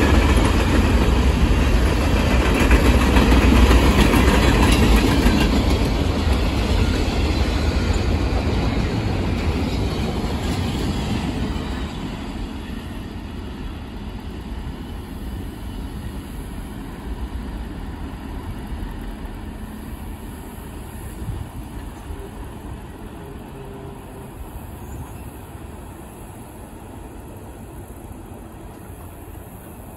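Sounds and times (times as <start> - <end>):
freight train rumbling on track: 0.0 - 29.9.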